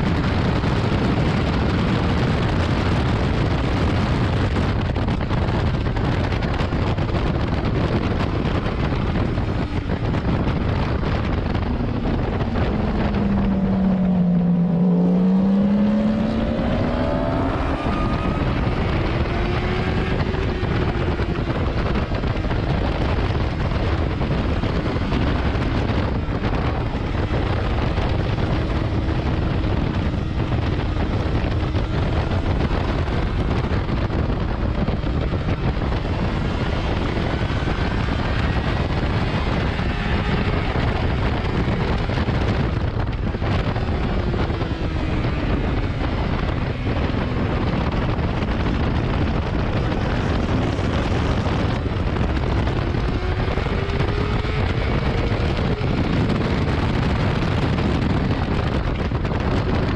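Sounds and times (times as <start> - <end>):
wind rushing over microphone: 0.0 - 59.9
faint motorcycle engine: 2.5 - 59.9.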